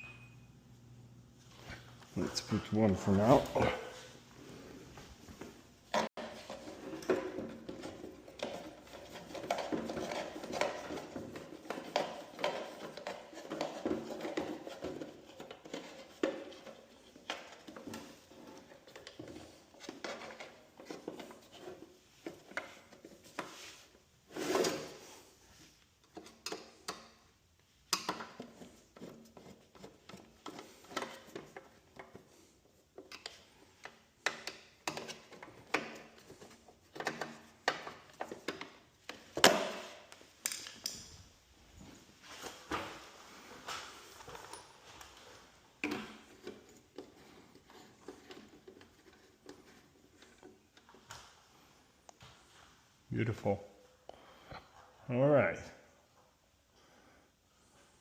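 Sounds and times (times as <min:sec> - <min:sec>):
handling parts and tools: 0:05.0 - 0:51.4.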